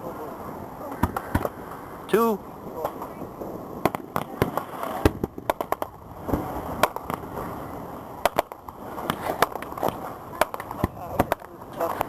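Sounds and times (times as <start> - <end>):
outdoor background noise: 0.0 - 12.0
firecrackers popping: 0.9 - 1.7, 2.8 - 12.0.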